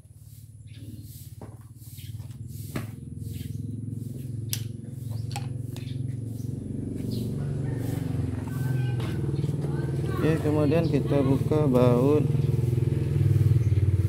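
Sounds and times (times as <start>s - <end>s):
motorcycle engine humming: 0.0s - 14.0s.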